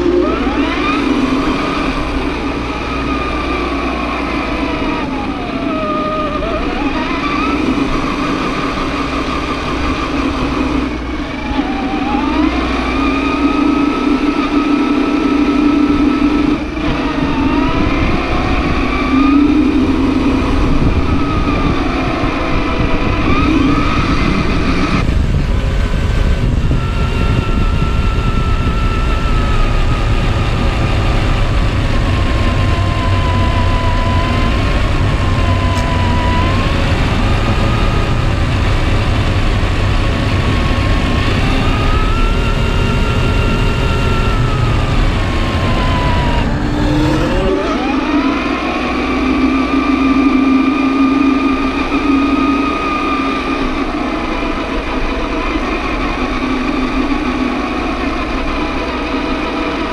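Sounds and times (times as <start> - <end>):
steady low hum: 0.0 - 48.6
rc truck motor whining: 0.0 - 59.9.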